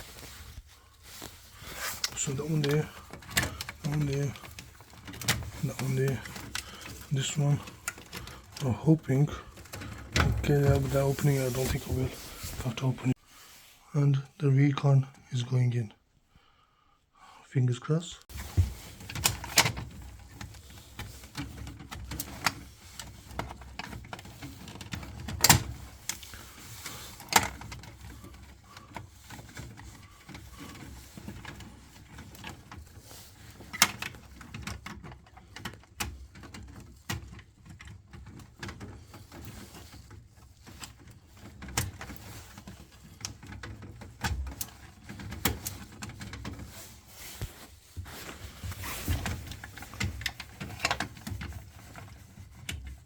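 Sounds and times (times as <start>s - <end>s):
plastic and metal parts clicking: 1.1s - 12.8s, 18.3s - 53.0s.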